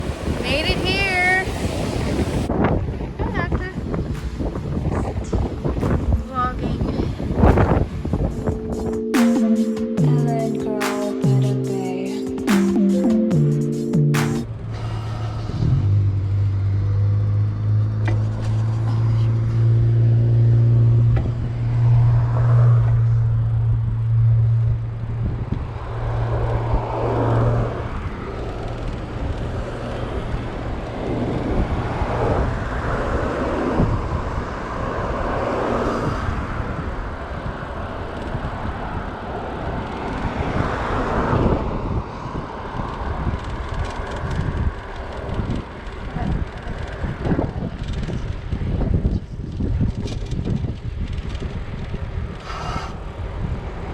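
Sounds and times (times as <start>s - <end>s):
vehicle engine humming: 0.0s - 49.6s
vehicles passing: 0.0s - 53.9s.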